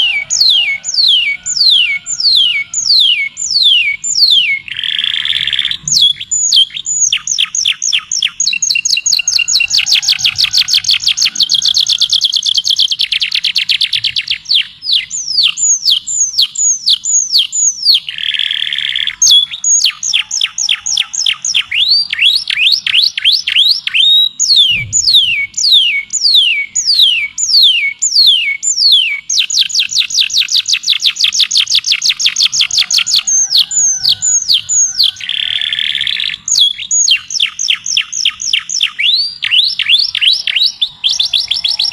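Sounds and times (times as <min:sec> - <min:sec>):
songbird singing trills: 0:00.0 - 0:41.9.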